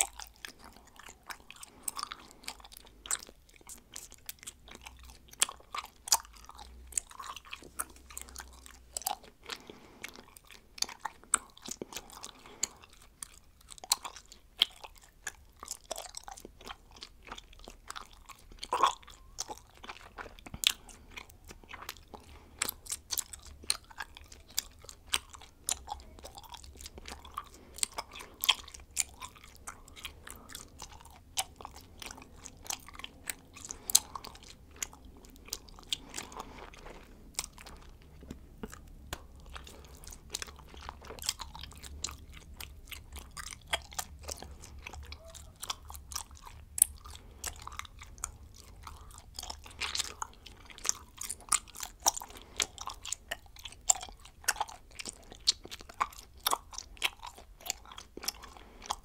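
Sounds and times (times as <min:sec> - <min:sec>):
gum chewing mouth clicks: 0:00.0 - 0:59.0.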